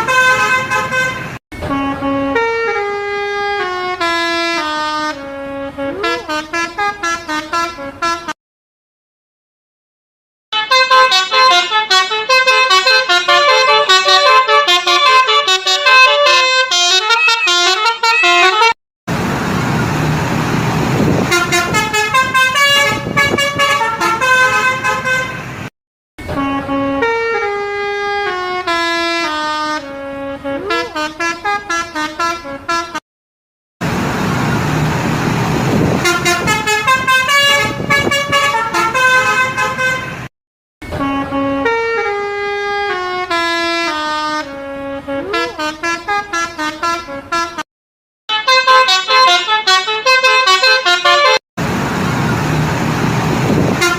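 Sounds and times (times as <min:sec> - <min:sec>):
musical bus horns: 0:00.0 - 0:08.4, 0:10.5 - 0:18.8, 0:20.7 - 0:33.0, 0:34.6 - 0:47.7, 0:48.3 - 0:51.4, 0:53.4 - 0:53.9.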